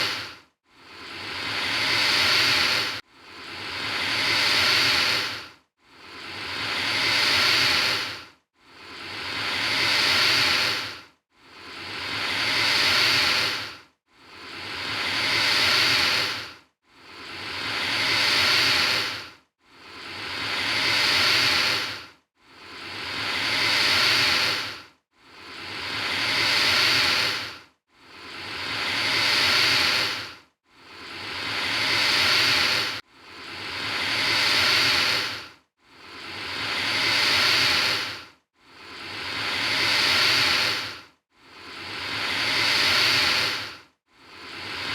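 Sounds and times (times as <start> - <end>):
alligator hissing: 0.0 - 0.3, 0.9 - 3.0, 3.6 - 5.4, 6.1 - 11.0, 11.6 - 16.5, 17.1 - 19.2, 19.9 - 22.0, 22.7 - 24.8, 25.4 - 27.6, 28.2 - 30.3, 30.9 - 35.4, 36.1 - 41.0, 41.6 - 44.9.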